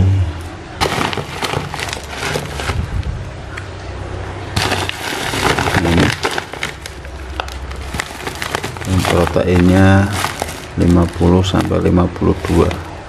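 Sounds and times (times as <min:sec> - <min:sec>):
plastic sack crinkling: 0:00.8 - 0:03.1, 0:04.6 - 0:13.0.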